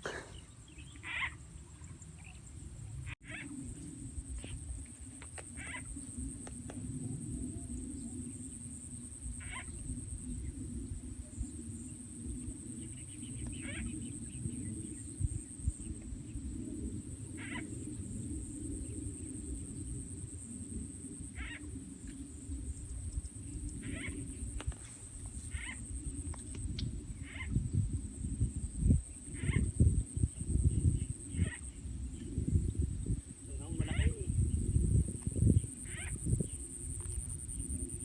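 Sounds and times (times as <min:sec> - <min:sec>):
frogs croaking chorus: 0:00.0 - 0:03.8, 0:05.2 - 0:06.2, 0:09.0 - 0:10.2, 0:11.4 - 0:22.8, 0:23.4 - 0:24.8, 0:25.5 - 0:38.0.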